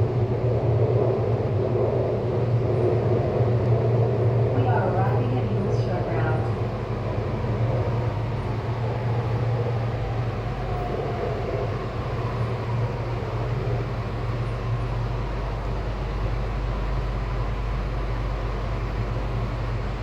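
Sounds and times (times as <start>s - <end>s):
train running with low hum: 0.0s - 20.0s.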